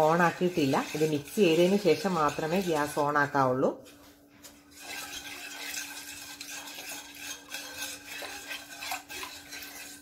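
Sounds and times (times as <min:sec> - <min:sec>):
wooden spoon scraping a pan: 0:00.0 - 0:10.0.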